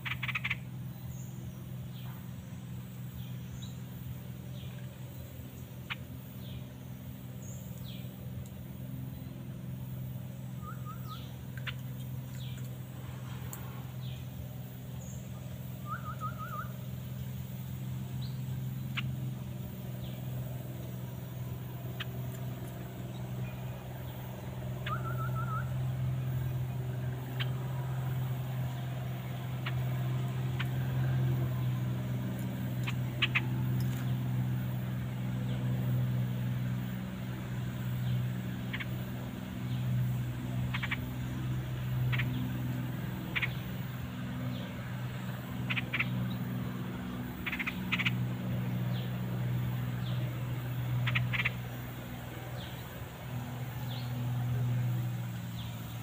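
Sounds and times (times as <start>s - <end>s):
low mechanical drone: 0.0s - 56.0s
trilled bird calls: 0.0s - 56.0s.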